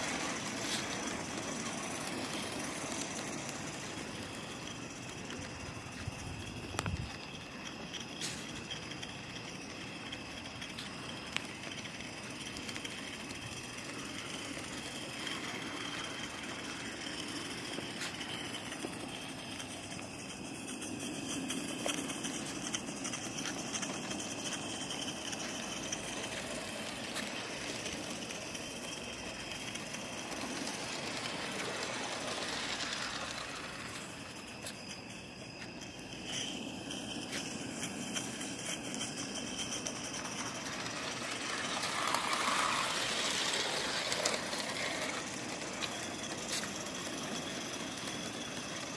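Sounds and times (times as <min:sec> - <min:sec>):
locomotive wheels on rails: 0:00.0 - 0:48.9
hiss of steam: 0:07.1 - 0:35.1, 0:35.7 - 0:48.9.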